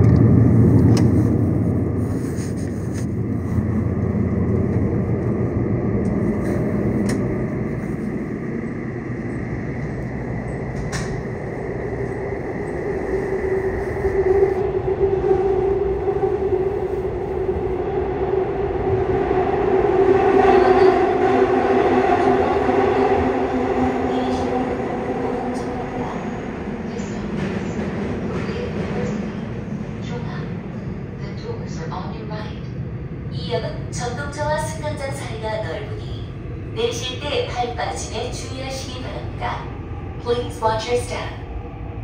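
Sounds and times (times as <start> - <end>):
wheels rumbling on rail: 0.0 - 42.0.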